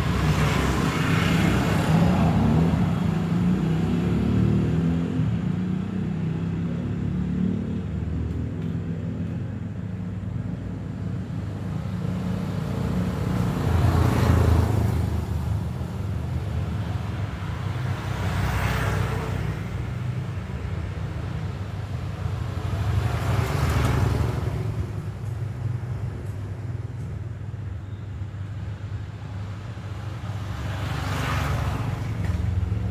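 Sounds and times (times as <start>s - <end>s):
low traffic rumble: 0.0s - 32.9s
vehicles passing by: 0.0s - 32.9s.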